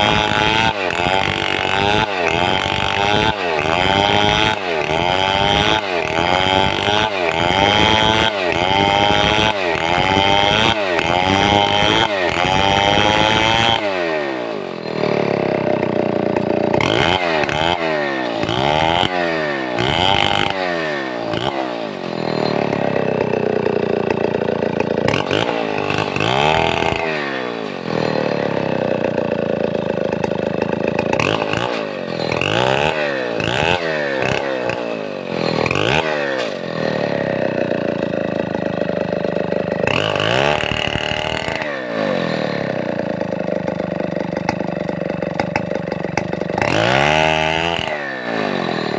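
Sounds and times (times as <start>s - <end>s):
chainsaw revving: 0.0s - 48.9s.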